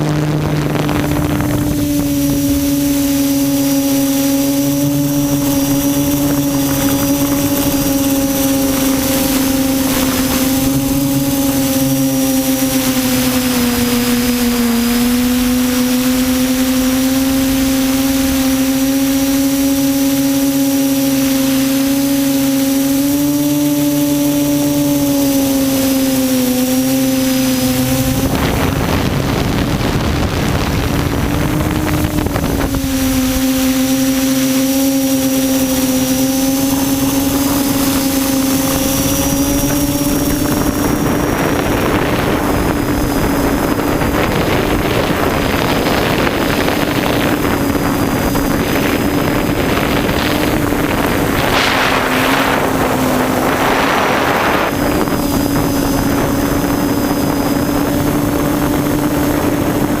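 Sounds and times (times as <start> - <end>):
drone motors humming: 0.0 - 60.0
wind noise rushes: 0.0 - 60.0.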